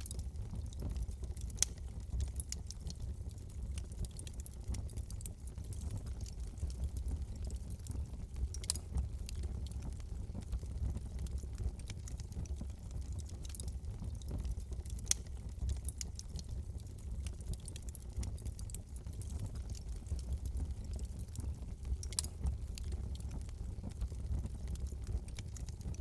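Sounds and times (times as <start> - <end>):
fire low rumble: 0.0 - 26.0
wood fire crackling: 0.0 - 26.0.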